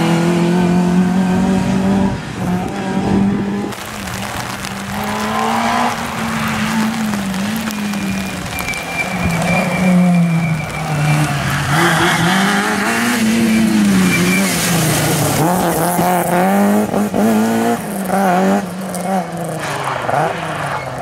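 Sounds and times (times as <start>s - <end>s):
rally car engine revving: 0.0s - 21.0s
tyre spray on wet road: 0.2s - 21.0s.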